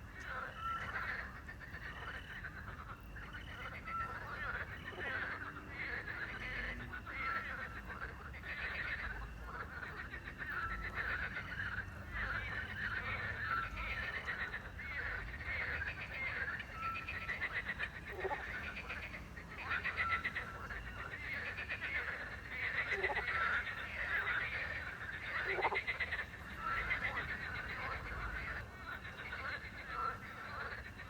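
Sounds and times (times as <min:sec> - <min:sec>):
frogs croaking: 0:00.0 - 0:31.0.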